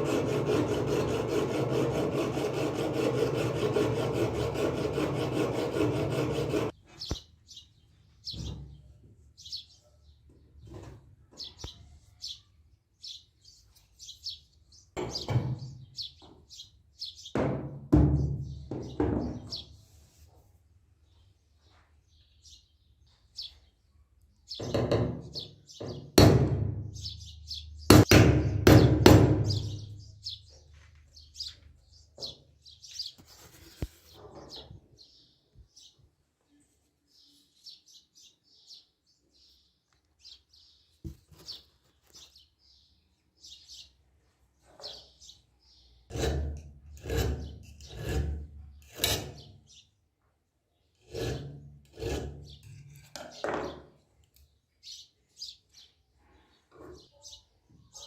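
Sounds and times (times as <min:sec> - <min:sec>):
small birds chirping: 0:06.7 - 0:17.4, 0:18.1 - 0:58.0.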